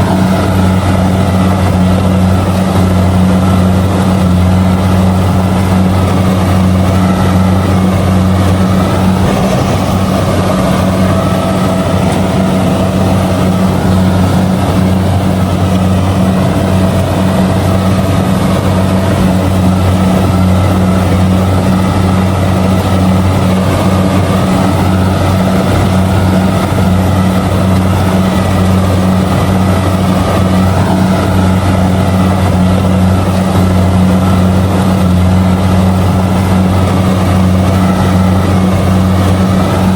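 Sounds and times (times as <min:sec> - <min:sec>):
combine harvester diesel drone: 0:00.0 - 0:39.9
wavering whine: 0:00.0 - 0:39.9.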